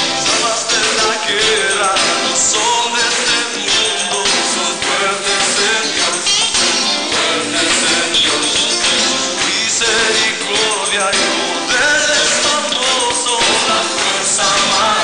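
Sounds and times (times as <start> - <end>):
tambourine shaking: 0.0 - 15.0
voices singing: 0.0 - 15.0
worship band playing upbeat song: 0.0 - 15.0.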